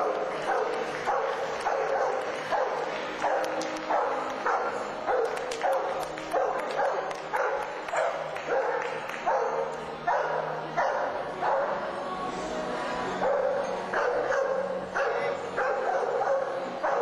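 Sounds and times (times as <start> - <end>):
dog barking: 0.0 - 11.7, 13.2 - 17.0.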